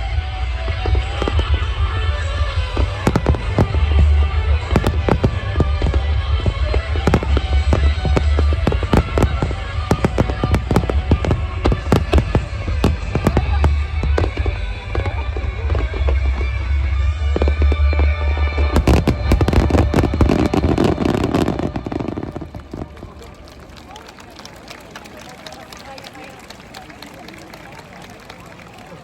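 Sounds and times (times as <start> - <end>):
music playing: 0.0 - 23.2
deep rumble: 0.0 - 23.4
fireworks bangs and crackles: 0.0 - 29.0.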